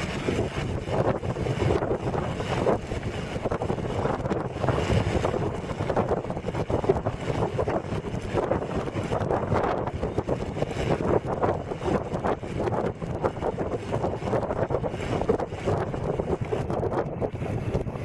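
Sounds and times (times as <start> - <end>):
low rumble: 0.0 - 18.0
wind noise on microphone: 0.0 - 18.0.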